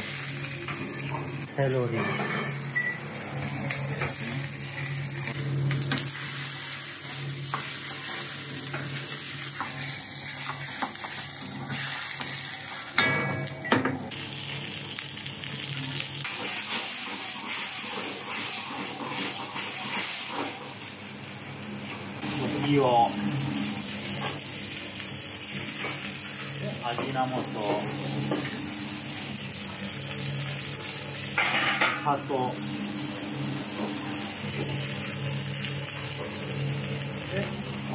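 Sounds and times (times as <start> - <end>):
vegetables sizzling in a wok: 0.0 - 37.9.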